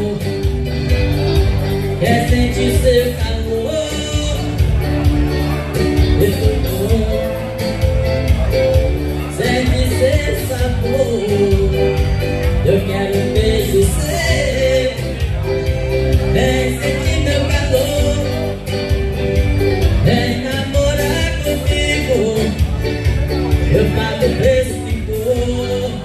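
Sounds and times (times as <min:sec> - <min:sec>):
accordion dance music with percussion: 0:00.0 - 0:26.0.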